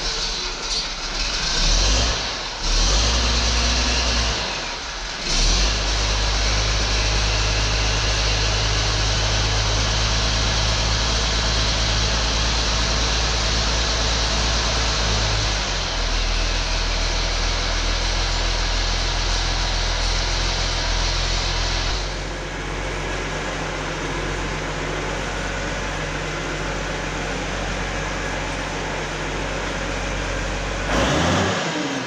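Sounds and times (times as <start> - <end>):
diesel tractor engine starting: 0.0 - 32.0.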